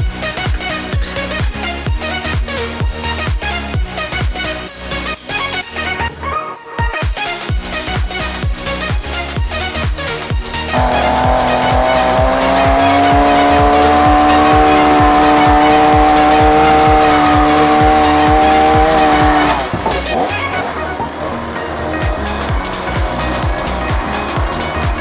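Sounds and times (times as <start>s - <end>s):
electronic music with beat: 0.0s - 25.0s.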